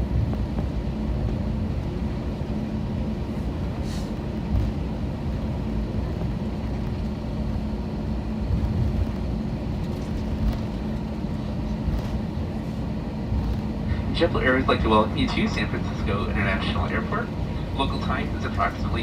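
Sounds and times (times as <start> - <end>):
aircraft cabin rumble: 0.0 - 19.0
constant cabin hum: 0.0 - 19.0.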